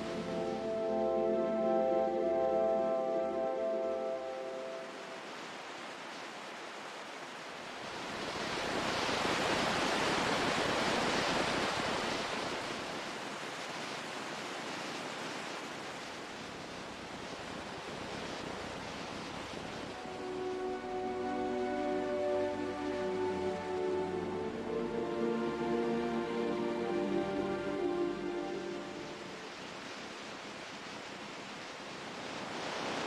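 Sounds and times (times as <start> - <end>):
ocean surf: 0.0 - 33.0.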